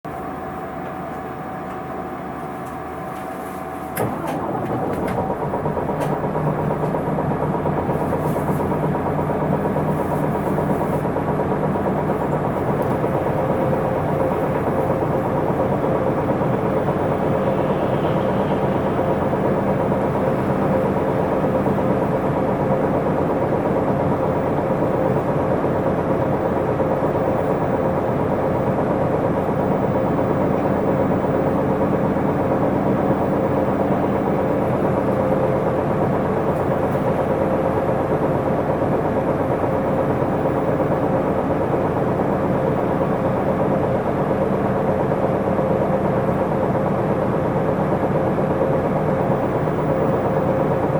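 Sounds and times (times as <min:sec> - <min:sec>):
bus engine idling: 0:00.1 - 0:50.9
diesel bus engine starting: 0:00.1 - 0:50.9.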